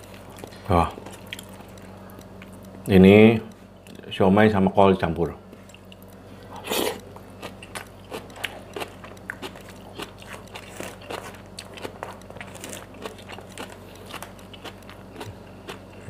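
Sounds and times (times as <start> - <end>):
chewing food: 0.0 - 2.9, 5.5 - 16.0.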